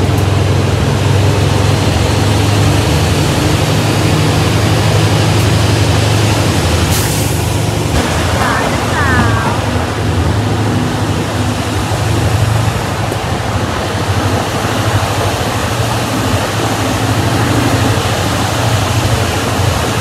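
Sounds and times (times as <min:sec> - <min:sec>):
wind and wheels on rails: 0:00.0 - 0:20.0.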